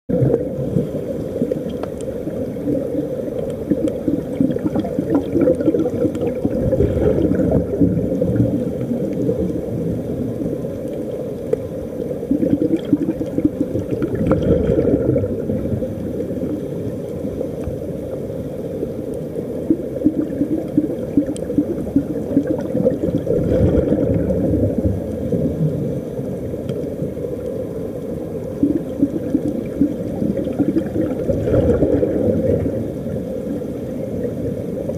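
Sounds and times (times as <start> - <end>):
underwater air bubbling: 0.0 - 34.9.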